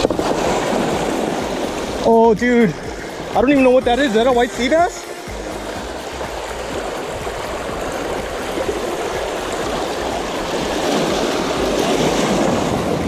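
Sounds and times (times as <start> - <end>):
waves splashing over rocks: 0.0 - 13.0.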